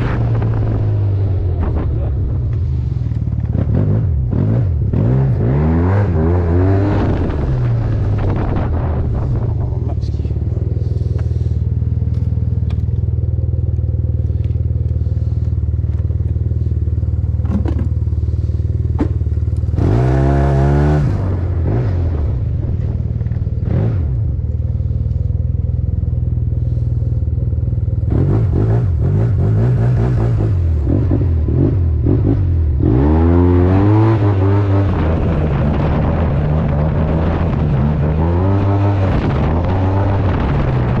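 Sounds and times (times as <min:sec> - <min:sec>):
scooter engine idling and revving: 0:00.0 - 0:41.0.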